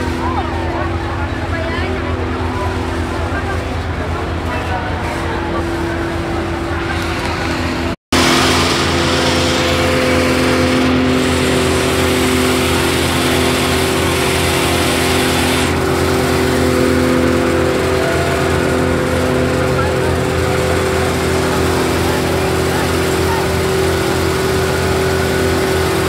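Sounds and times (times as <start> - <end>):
fire truck water pump droning: 0.0 - 26.0
loud rushing noise: 0.0 - 26.0.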